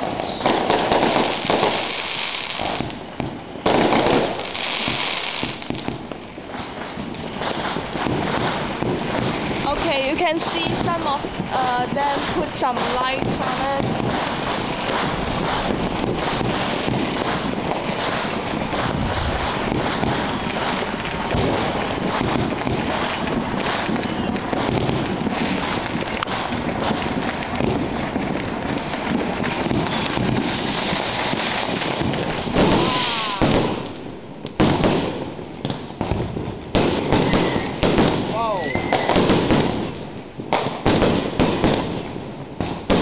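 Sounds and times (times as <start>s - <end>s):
fireworks cracking and banging: 0.0s - 43.0s.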